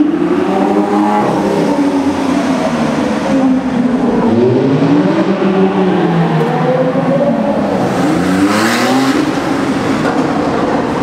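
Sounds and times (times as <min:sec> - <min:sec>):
sports car engines revving in tunnel: 0:00.0 - 0:11.0.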